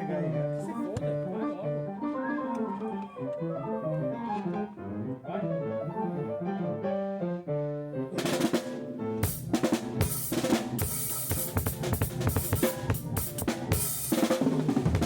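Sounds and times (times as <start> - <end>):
electronic keyboard organ sound: 0.0 - 15.0.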